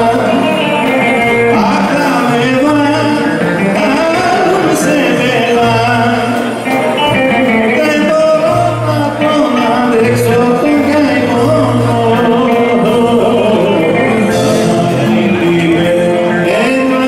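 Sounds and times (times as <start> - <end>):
live band music through speakers: 0.0 - 17.0
person singing: 0.0 - 17.0.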